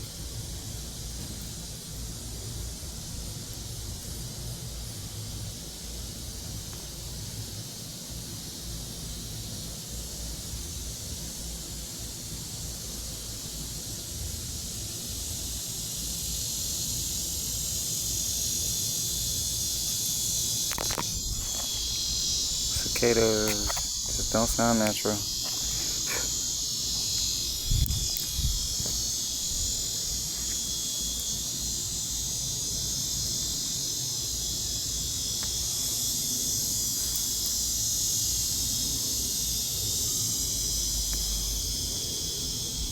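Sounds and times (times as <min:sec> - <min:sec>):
cicadas buzzing: 0:00.0 - 0:42.9.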